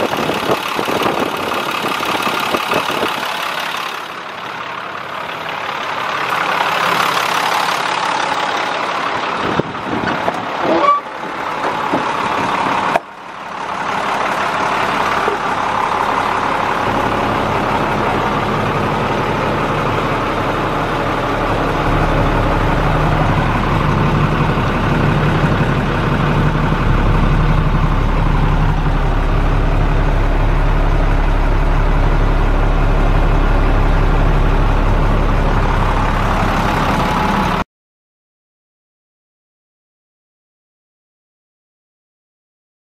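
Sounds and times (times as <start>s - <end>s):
diesel truck engine idling: 0.0s - 37.6s.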